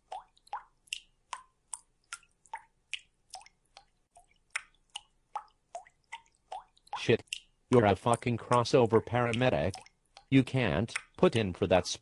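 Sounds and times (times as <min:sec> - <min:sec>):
water dripping: 0:00.0 - 0:12.0.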